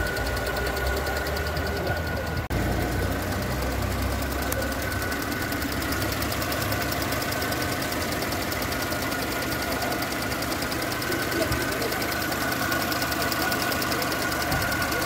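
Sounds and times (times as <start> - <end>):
car engine idling: 0.0 - 15.0
purge valve ticking fast: 0.0 - 15.0.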